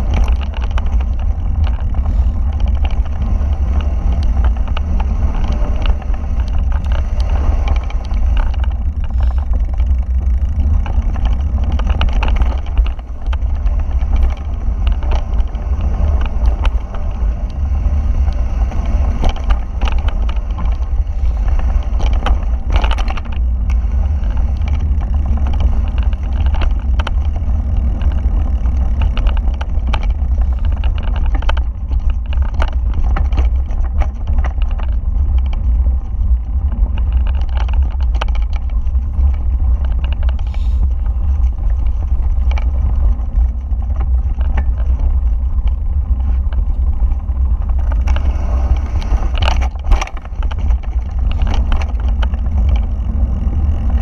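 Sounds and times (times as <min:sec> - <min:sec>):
bike frame rattling: 0:00.0 - 0:54.0
bike rolling on dirt trail: 0:00.0 - 0:54.0
wind buffeting: 0:00.0 - 0:54.0.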